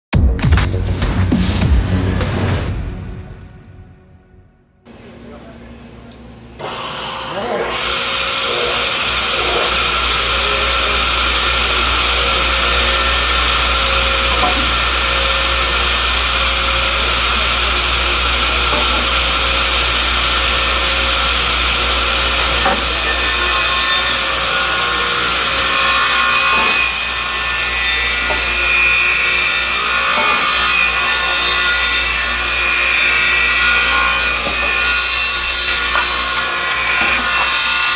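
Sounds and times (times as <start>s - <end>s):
circular saw blades whining: 4.9s - 37.9s.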